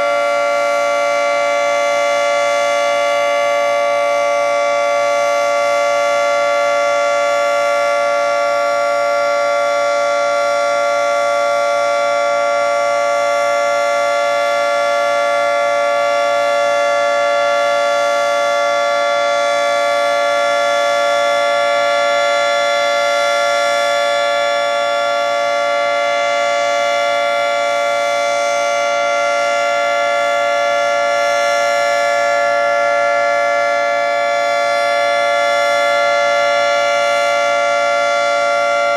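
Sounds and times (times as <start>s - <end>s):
warning siren chord: 0.0s - 38.9s.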